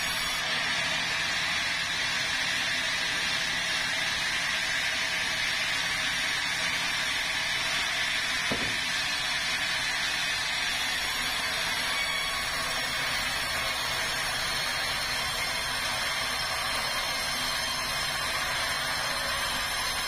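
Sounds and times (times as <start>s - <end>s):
band saw whirring: 0.0s - 20.0s.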